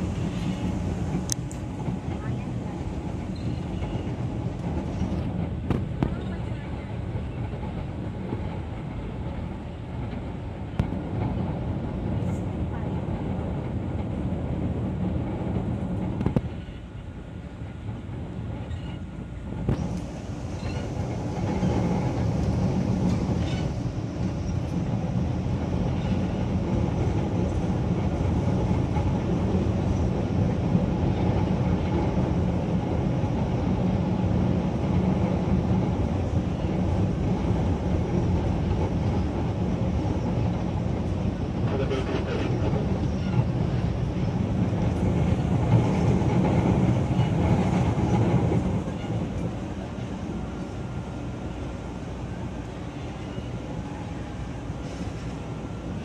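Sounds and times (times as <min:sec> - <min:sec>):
train rumbling in motion: 0:00.0 - 0:56.0.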